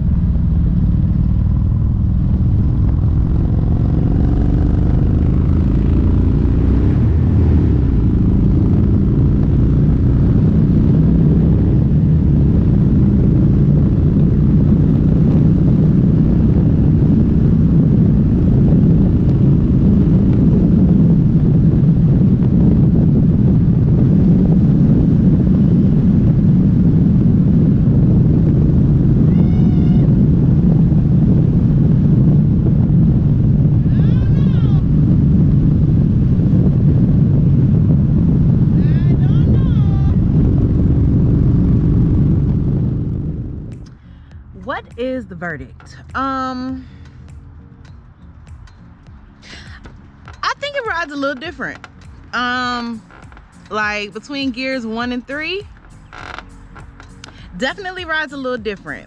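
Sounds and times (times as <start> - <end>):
motorcycle engine at road speed: 0.0 - 59.0
wind rush: 0.0 - 59.0.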